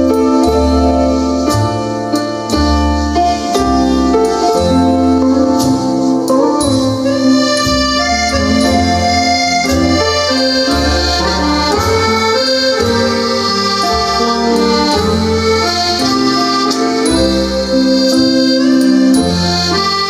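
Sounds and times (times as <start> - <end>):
instrumental music through loudspeaker: 0.0 - 20.0.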